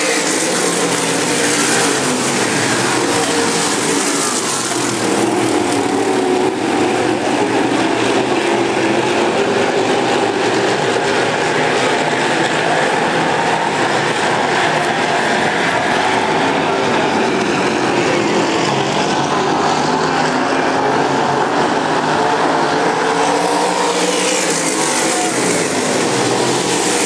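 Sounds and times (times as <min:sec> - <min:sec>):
race car engines roaring: 0:00.0 - 0:27.0.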